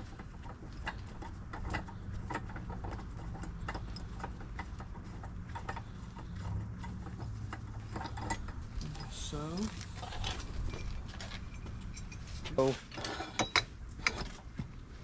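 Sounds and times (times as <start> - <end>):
metal parts clicking and knocking: 0.0 - 14.4.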